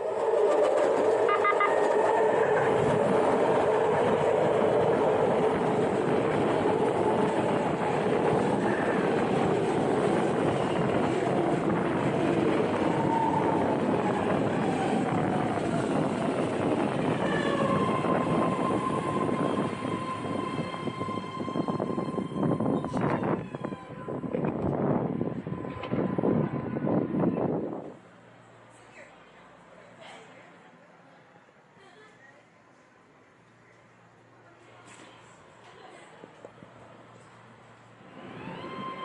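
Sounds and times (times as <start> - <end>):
train rumbling on track: 0.0 - 28.8, 35.6 - 39.0.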